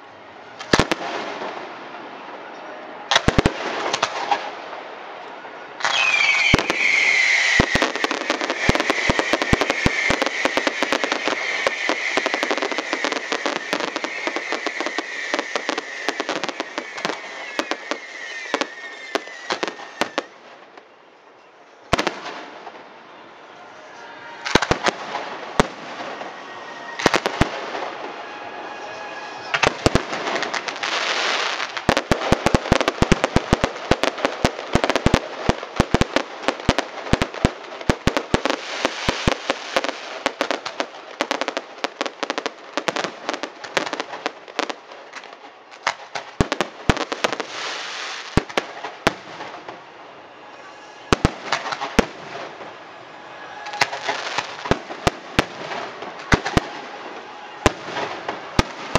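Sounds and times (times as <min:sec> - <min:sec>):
fireworks bangs: 0:00.6 - 0:02.3, 0:03.0 - 0:04.8, 0:05.7 - 0:20.8, 0:21.9 - 0:23.0, 0:23.6 - 0:58.9
fireworks crackle: 0:03.1 - 0:04.6, 0:05.8 - 0:20.8, 0:23.7 - 0:58.9.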